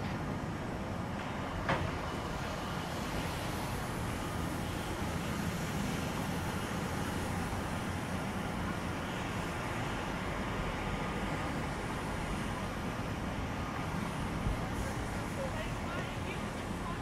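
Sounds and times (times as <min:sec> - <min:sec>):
engine and traffic noise: 0:00.0 - 0:17.0
low rumble of city ambience: 0:00.0 - 0:17.0.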